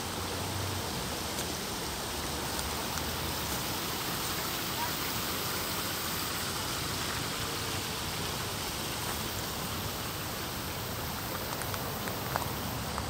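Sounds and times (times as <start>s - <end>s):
water rushing over stones: 0.0s - 13.0s.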